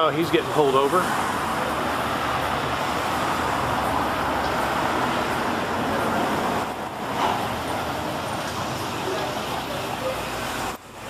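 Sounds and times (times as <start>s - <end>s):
cars driving by: 0.0s - 11.0s.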